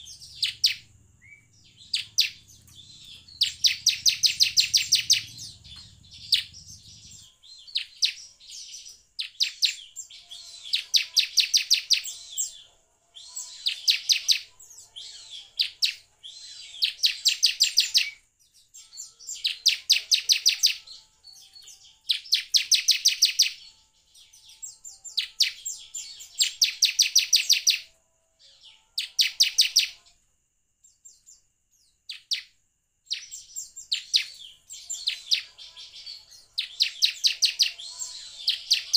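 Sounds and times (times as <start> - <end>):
bird singing fast trills: 0.0 - 30.2, 32.0 - 38.9
bird chirps: 0.0 - 38.9.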